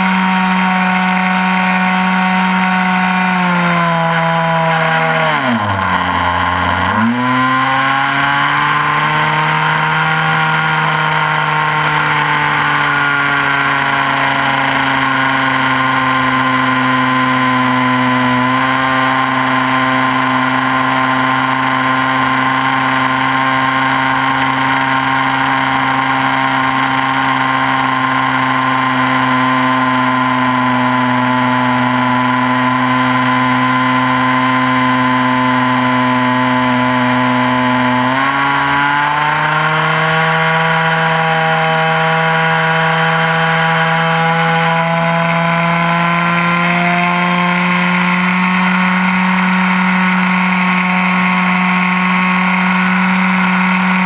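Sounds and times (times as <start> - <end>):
model plane engine running: 0.0 - 54.0.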